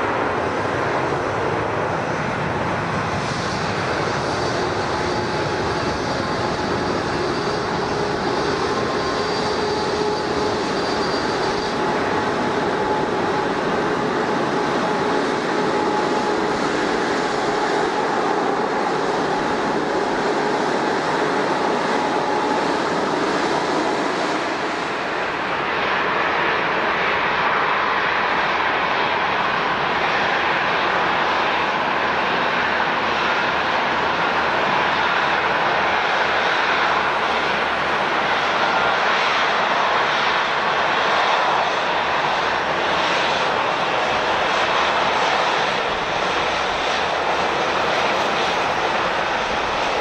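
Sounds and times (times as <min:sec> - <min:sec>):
jet engines running: 0:00.0 - 0:50.0.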